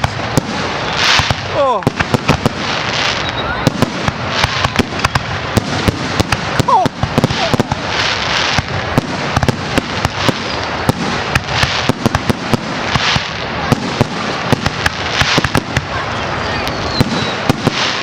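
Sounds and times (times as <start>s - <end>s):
firework bangs: 0.0s - 18.0s
fireworks crackling and popping: 0.0s - 18.0s.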